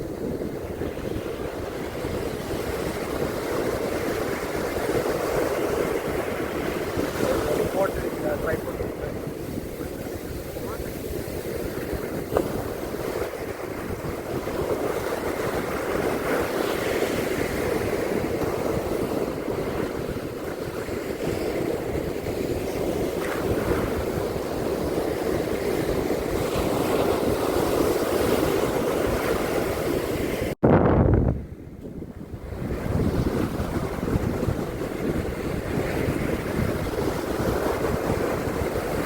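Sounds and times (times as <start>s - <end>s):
ocean surf washing onto beach: 0.0s - 30.6s, 31.4s - 39.0s
wind rumbling on microphone: 0.0s - 39.0s.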